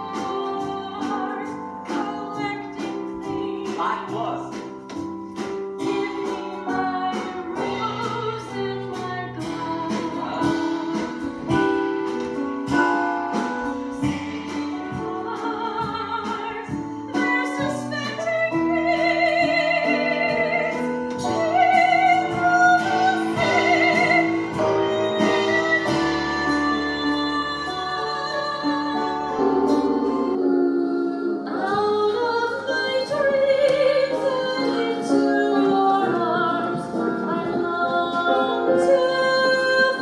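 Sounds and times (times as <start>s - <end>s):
musical theatre song with orchestra: 0.0s - 40.0s.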